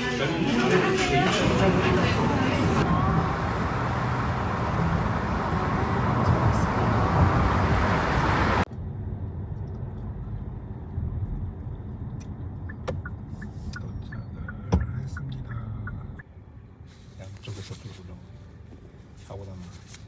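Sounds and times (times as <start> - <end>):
car rumbling on road: 0.0 - 16.3.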